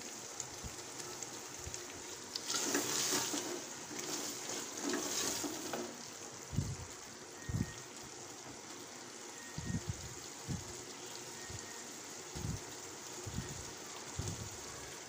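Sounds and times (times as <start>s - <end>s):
meat and potatoes sizzling in oil: 0.0s - 15.0s.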